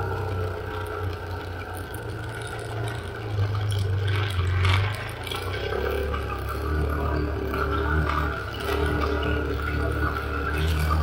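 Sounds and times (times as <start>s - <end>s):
vehicle engine drone: 0.0s - 11.0s
vehicle rattling on rough trail: 0.0s - 11.0s.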